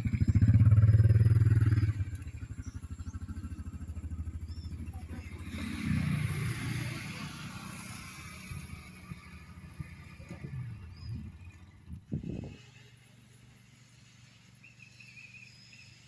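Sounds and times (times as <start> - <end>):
diesel train engine and wheels: 0.0 - 16.0.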